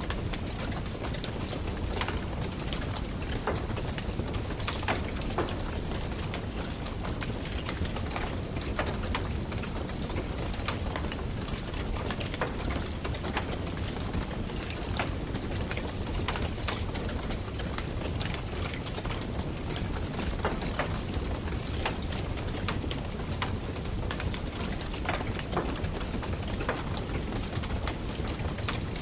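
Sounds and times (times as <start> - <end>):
campfire crackling and popping: 0.3 - 29.0.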